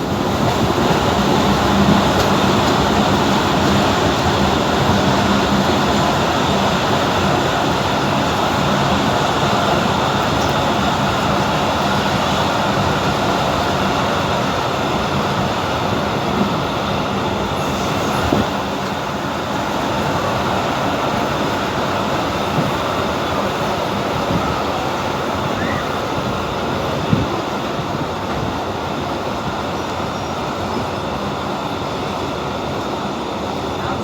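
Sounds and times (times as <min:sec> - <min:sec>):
train rumble inside carriage: 0:00.0 - 0:34.0.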